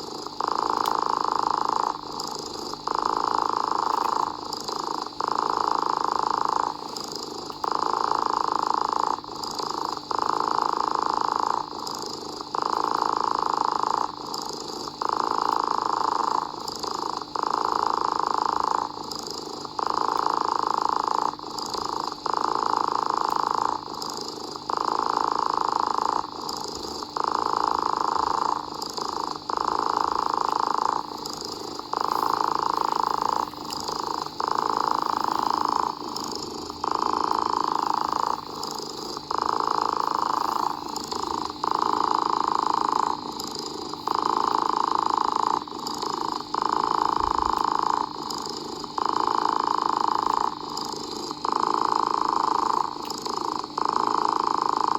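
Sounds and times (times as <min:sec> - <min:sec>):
cat purring: 0:00.0 - 0:54.9.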